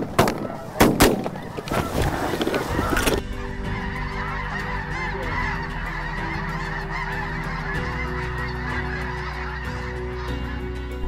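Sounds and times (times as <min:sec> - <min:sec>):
geese calling: 0:00.0 - 0:11.0.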